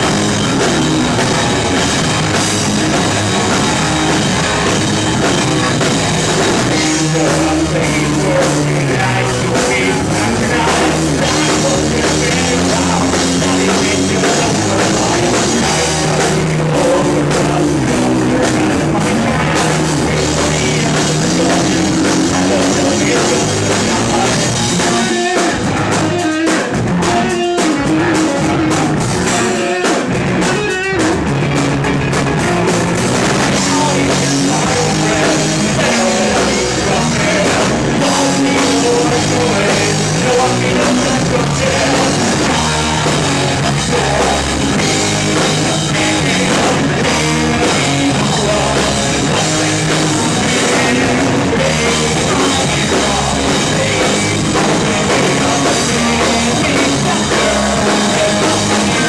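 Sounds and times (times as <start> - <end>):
drum kit: 0.0 - 59.0
electric guitar: 0.0 - 59.0
rock band playing: 0.0 - 59.0.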